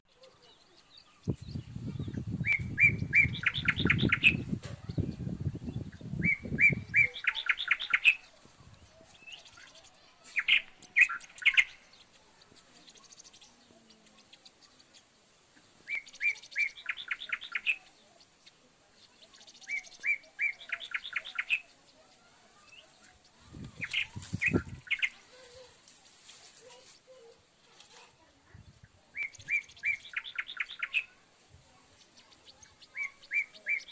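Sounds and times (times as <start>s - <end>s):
small bird chirping and trilling: 0.1s - 25.8s, 26.8s - 33.9s.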